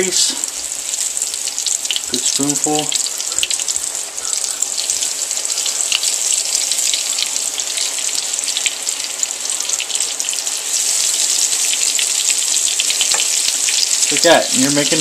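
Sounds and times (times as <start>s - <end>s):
batter deep frying in oil: 0.0s - 15.0s.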